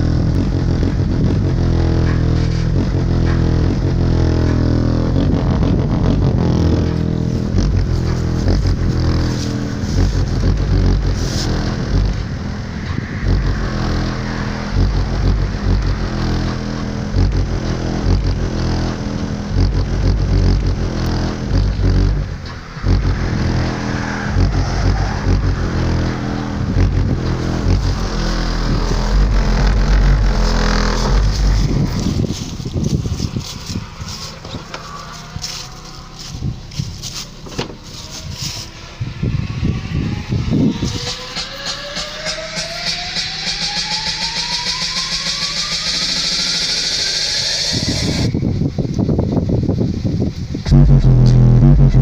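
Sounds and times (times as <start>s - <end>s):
subwoofer playing bass-heavy music: 0.0s - 49.7s, 50.4s - 52.0s.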